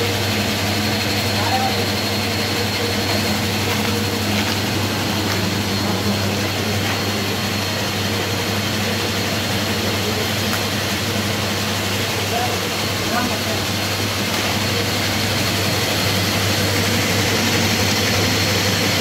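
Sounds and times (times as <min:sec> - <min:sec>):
washing machine humming: 0:00.0 - 0:19.0
washing machine rushing noise: 0:00.0 - 0:19.0.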